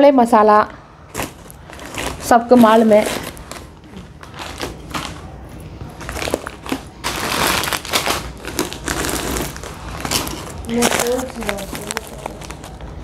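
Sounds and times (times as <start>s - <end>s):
plastic packets crinkling: 1.1s - 13.0s.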